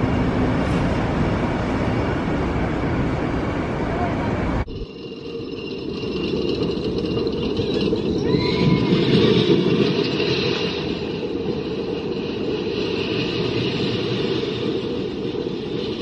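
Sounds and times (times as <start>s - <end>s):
roller coaster wheels rumbling on rails: 0.0s - 16.0s.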